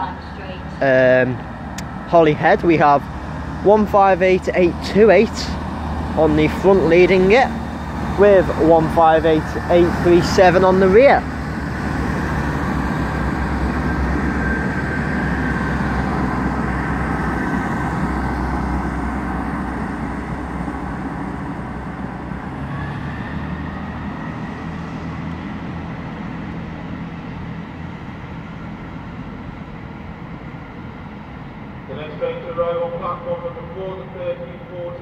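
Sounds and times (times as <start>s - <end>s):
diesel train engine rumble: 0.0s - 35.0s.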